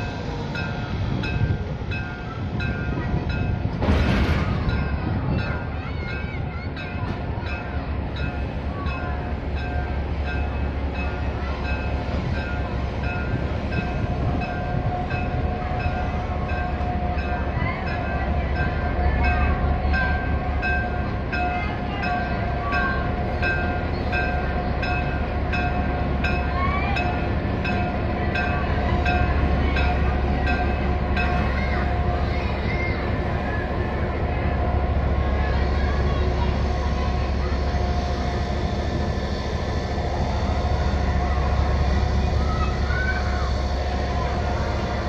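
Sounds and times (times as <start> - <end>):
diesel locomotive engine rumbling: 0.0 - 45.0.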